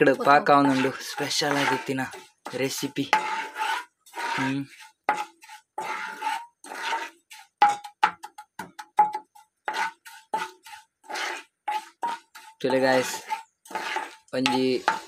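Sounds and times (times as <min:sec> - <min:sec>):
metal spoon scraping pan: 0:00.0 - 0:15.0.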